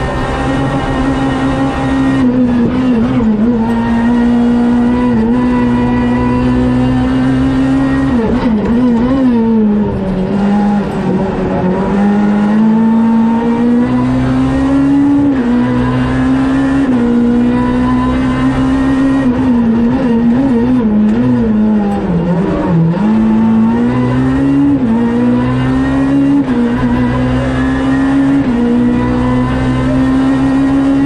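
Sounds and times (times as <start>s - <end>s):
car engine revving hard: 0.0s - 31.0s.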